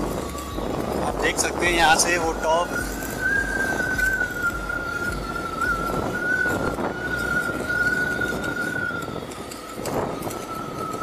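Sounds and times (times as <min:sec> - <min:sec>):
steady high whine: 0:00.0 - 0:11.0
wind rumbling on microphone: 0:00.0 - 0:11.0.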